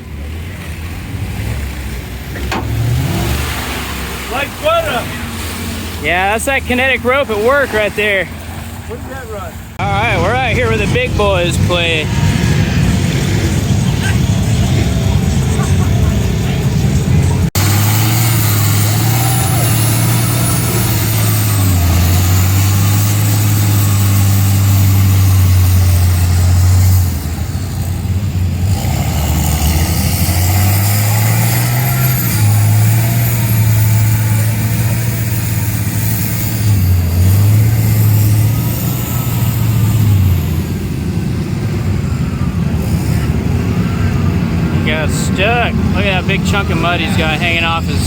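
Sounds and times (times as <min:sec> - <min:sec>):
truck engine revving: 0:00.0 - 0:48.0.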